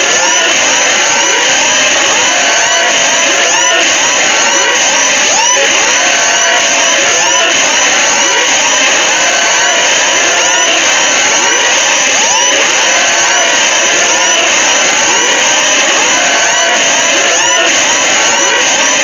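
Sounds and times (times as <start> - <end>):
layered alarm siren tones: 0.0 - 19.0.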